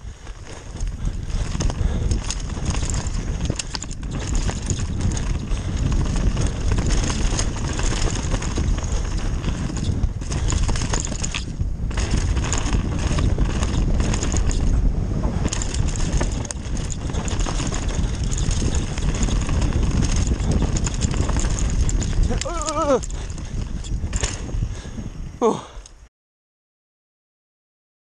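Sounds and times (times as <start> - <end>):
bike tyres rolling over dirt: 0.0 - 25.8
bike rattling over bumps: 0.0 - 25.9
wind buffeting microphone: 0.0 - 26.0.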